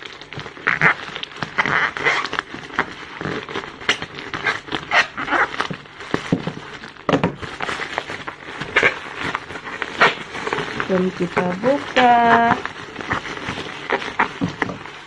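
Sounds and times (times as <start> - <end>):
blade cutting plastic: 0.0 - 15.0
plastic mailer crinkling: 0.0 - 15.0.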